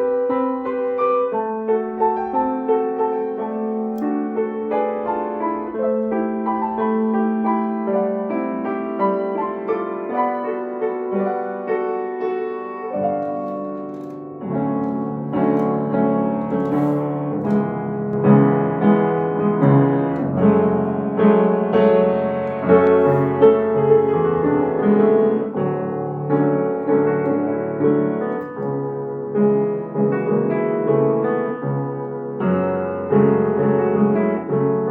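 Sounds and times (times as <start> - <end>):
solo piano piece: 0.0 - 34.9.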